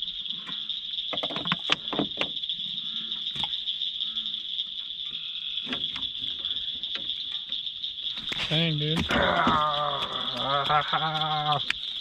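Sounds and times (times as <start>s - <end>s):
crickets and insects chorus: 0.0s - 12.0s.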